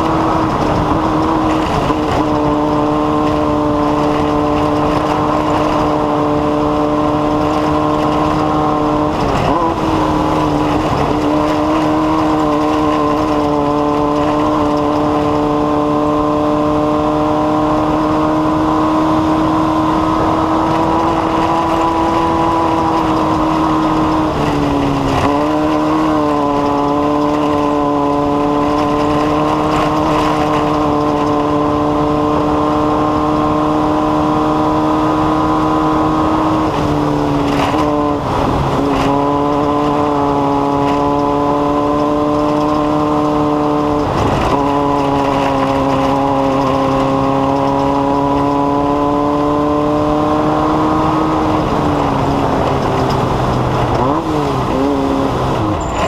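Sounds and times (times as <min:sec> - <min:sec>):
engine running at steady revs: 0:00.0 - 0:56.0.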